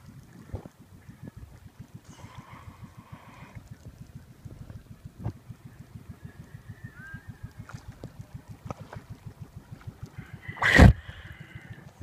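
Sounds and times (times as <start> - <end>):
small boat engine idling: 0.0 - 12.0.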